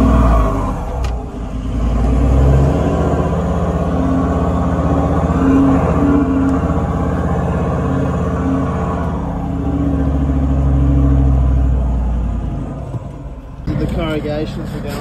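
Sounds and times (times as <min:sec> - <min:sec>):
vehicle engine droning in cabin: 0:00.0 - 0:15.0.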